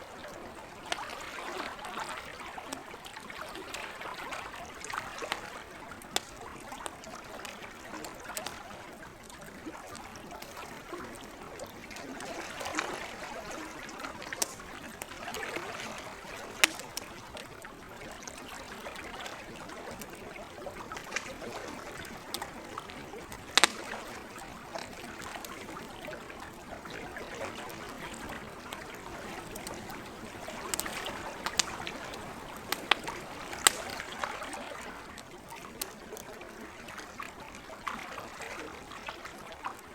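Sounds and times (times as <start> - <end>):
lake water lapping: 0.0 - 39.9
campfire crackling and popping: 0.5 - 38.0.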